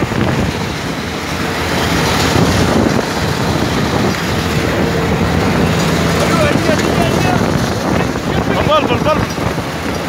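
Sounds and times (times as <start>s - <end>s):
combine harvester engine din: 0.0s - 10.0s.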